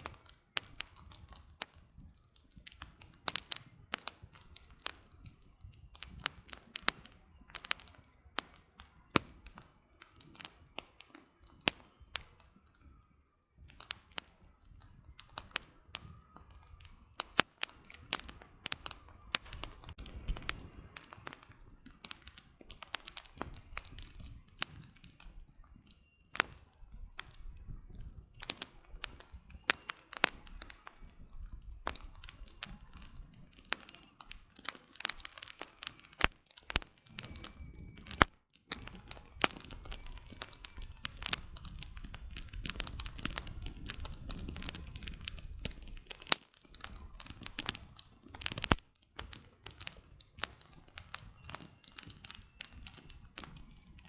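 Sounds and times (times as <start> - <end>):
firewood popping and snapping: 0.0 - 54.0
low rumble of flames: 0.0 - 54.0
wood fire crackling: 0.0 - 54.0.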